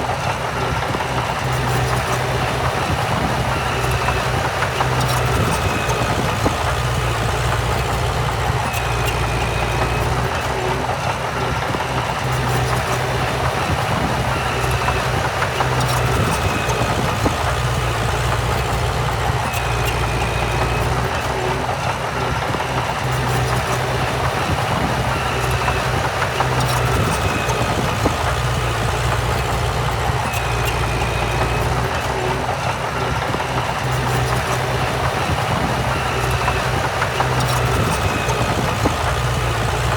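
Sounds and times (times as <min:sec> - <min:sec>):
diesel machinery engine running: 0:00.0 - 0:39.9.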